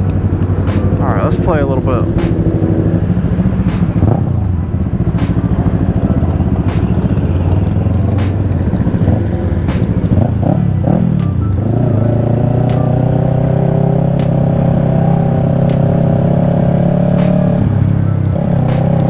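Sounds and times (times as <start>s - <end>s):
sport-bike engines revving: 0.0s - 19.0s.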